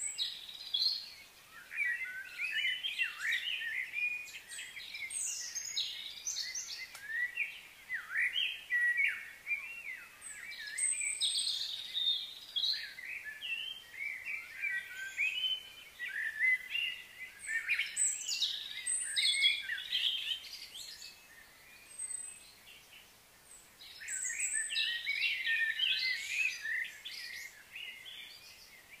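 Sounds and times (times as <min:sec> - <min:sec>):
songbirds chirping and whistling: 0:00.0 - 0:29.0.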